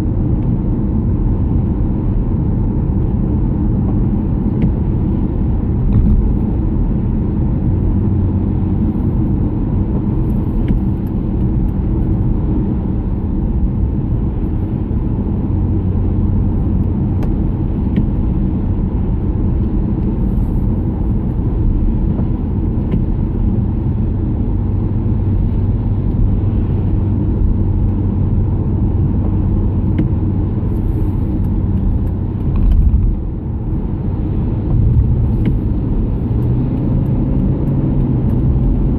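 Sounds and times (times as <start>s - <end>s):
car interior road rumble: 0.0s - 38.9s
tyres on wet road: 0.1s - 38.9s.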